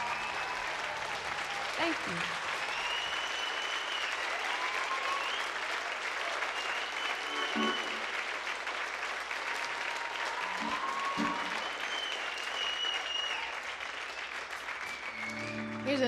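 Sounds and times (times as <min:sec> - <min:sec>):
crowd whistles: 0:00.0 - 0:01.8, 0:02.6 - 0:08.3, 0:09.5 - 0:16.0
audience applauding: 0:00.0 - 0:16.0.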